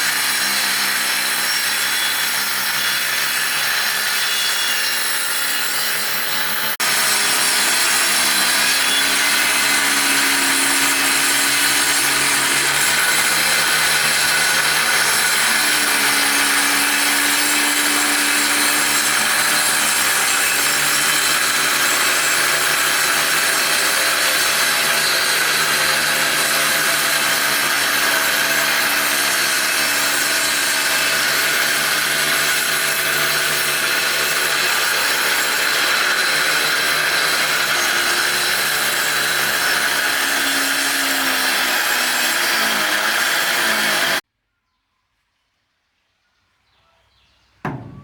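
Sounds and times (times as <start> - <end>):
woodworking machine cutting wood: 0.0 - 44.2, 47.7 - 48.0.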